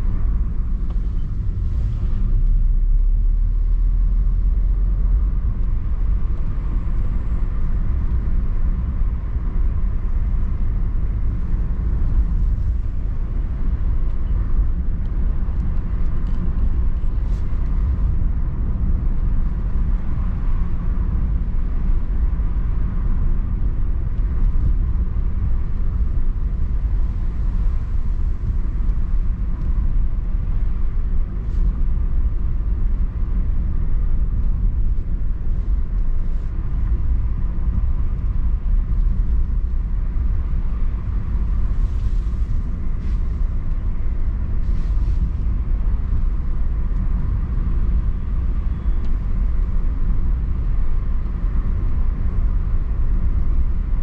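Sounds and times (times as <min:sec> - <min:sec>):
car cabin road and engine rumble: 0:00.0 - 0:54.0.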